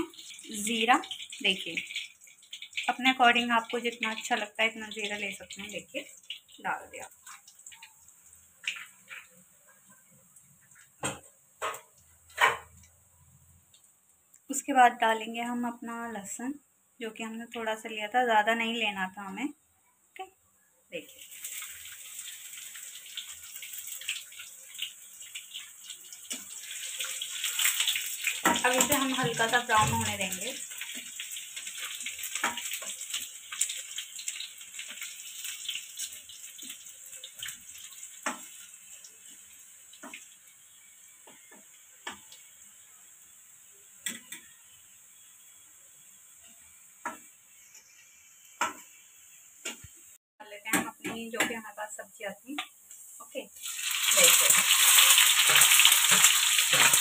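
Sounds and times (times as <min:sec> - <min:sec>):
spices sizzling in hot oil: 0:00.0 - 0:57.0.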